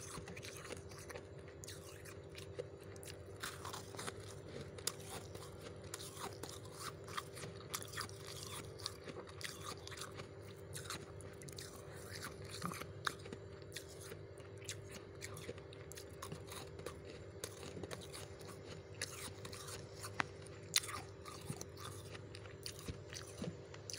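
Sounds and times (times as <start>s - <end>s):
frost being chewed crunches: 0.0s - 23.9s
steady low hum: 0.0s - 23.9s.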